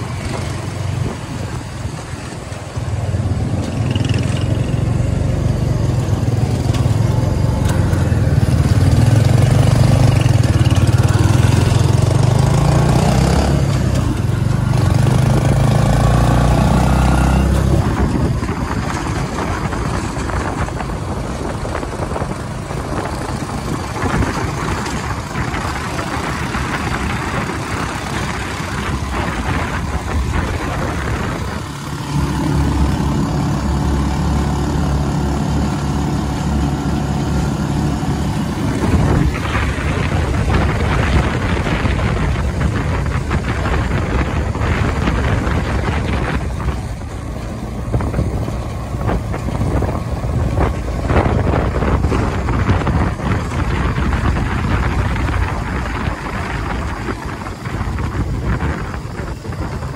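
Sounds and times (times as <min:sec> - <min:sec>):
motorcycle engine running: 0:00.0 - 0:59.9
wind and road rumble: 0:00.0 - 0:59.9.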